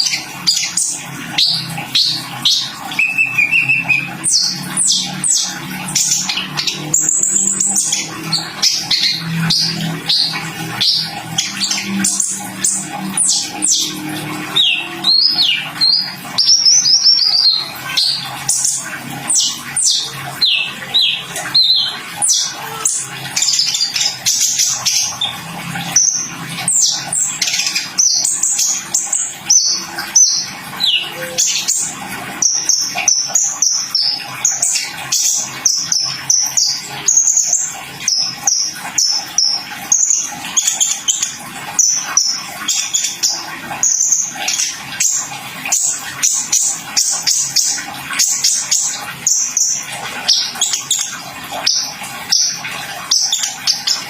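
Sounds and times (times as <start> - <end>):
bird singing high chirps: 0.0 - 18.4, 19.3 - 45.2.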